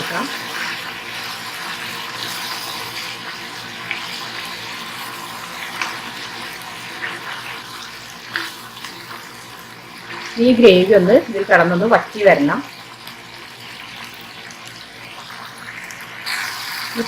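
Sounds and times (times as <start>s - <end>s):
broth sizzling in hot oil: 0.0s - 17.0s.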